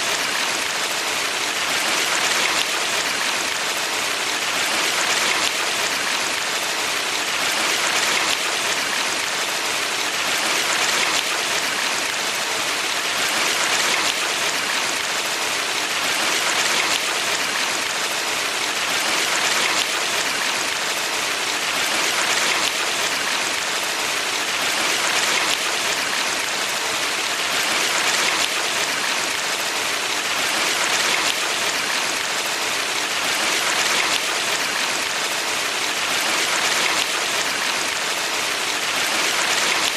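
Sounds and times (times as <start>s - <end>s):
stream rushing and splashing: 0.0s - 39.9s.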